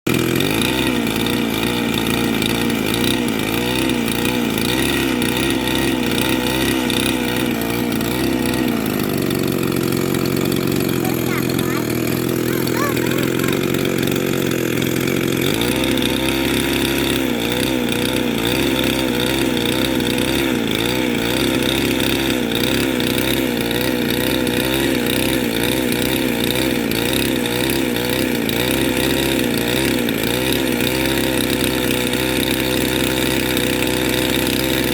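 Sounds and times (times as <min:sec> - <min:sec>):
chainsaw running: 0:00.1 - 0:34.9.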